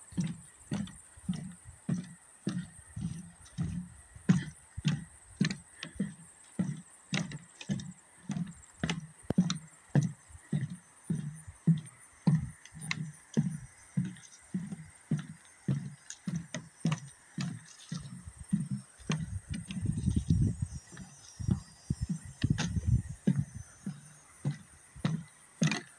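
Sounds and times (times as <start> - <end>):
footsteps on wooden boardwalk: 0.0 - 25.9.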